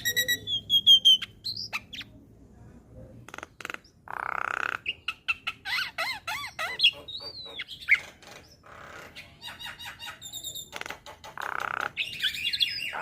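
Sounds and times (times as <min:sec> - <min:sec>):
bird whistling and chattering: 0:00.0 - 0:02.2, 0:03.6 - 0:10.8, 0:11.4 - 0:13.0.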